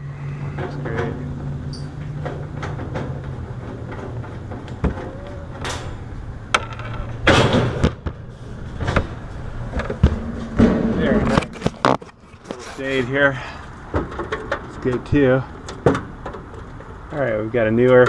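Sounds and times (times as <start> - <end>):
low mechanical hum: 0.0 - 18.0
knocks and clatter: 0.5 - 12.6, 13.8 - 17.1.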